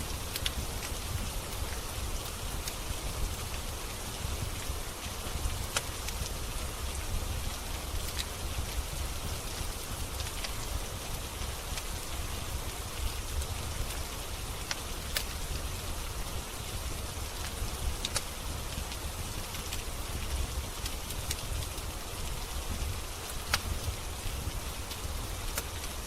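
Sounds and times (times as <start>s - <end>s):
steady rain hissing: 0.0s - 26.0s
wood fire crackling: 0.0s - 26.0s.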